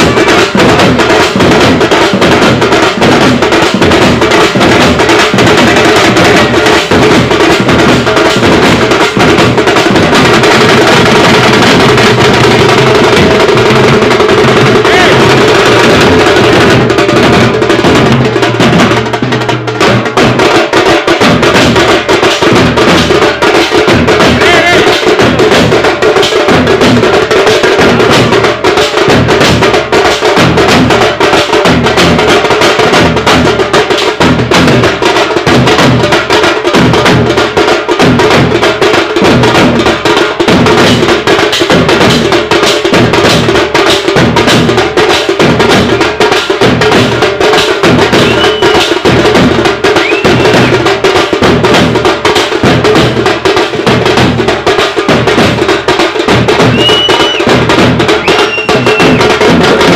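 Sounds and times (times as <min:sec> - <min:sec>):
bass drum beaten with sticks: 0:00.0 - 0:59.9
street drum band: 0:00.0 - 0:59.9.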